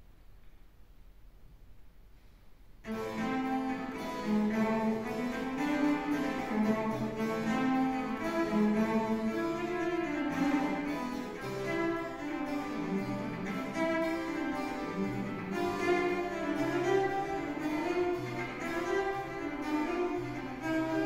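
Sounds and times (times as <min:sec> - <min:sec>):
bowed cello melody: 0:02.8 - 0:21.0.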